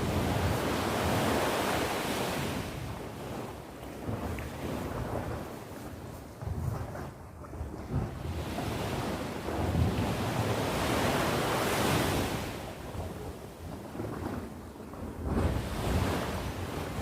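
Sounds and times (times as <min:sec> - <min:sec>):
sea waves breaking on shore: 0:00.0 - 0:17.0
wind rumbling on microphone: 0:00.0 - 0:17.0.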